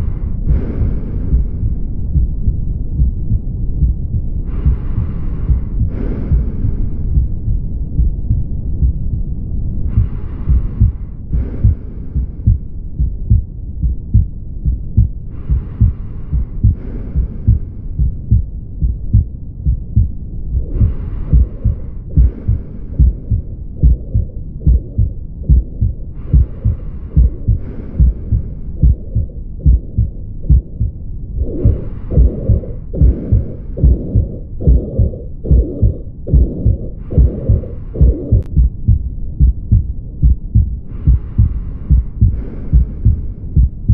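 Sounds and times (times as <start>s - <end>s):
blowing heart murmur: 0.0s - 43.9s
heartbeat through stethoscope: 0.0s - 43.9s.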